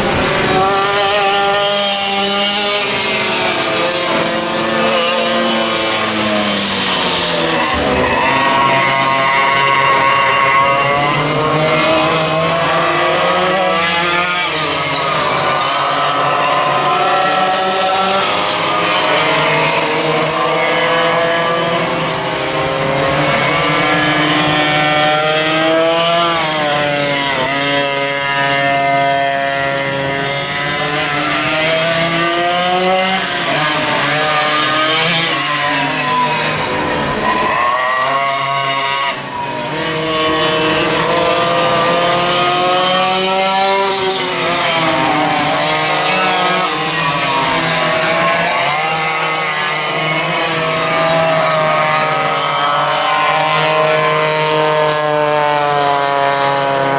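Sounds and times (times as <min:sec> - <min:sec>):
go-kart engines revving: 0:00.0 - 0:56.9.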